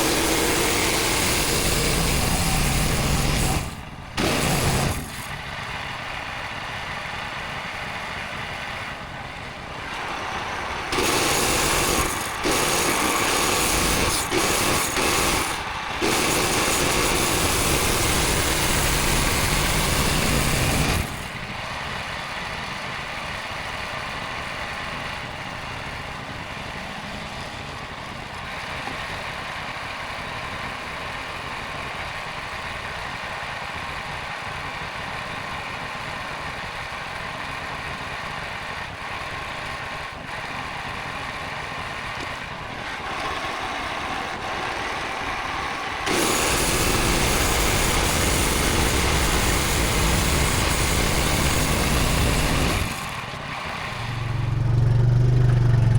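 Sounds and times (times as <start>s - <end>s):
small engine running: 0.0s - 55.9s.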